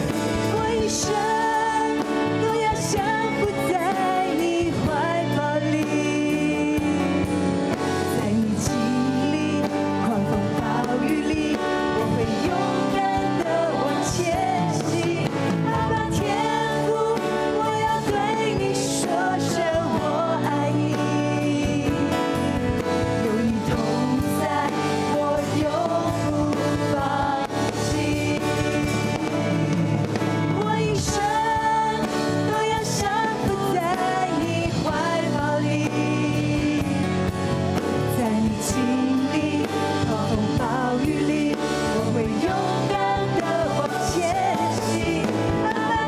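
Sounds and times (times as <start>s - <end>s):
instrumental accompaniment: 0.0s - 46.0s
woman singing into microphone: 0.0s - 46.0s.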